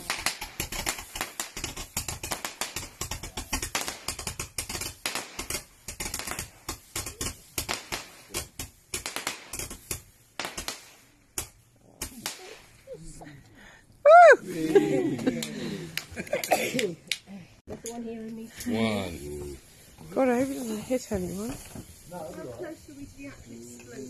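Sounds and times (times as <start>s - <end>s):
fireworks crackling and banging: 0.0s - 13.2s, 14.1s - 24.0s.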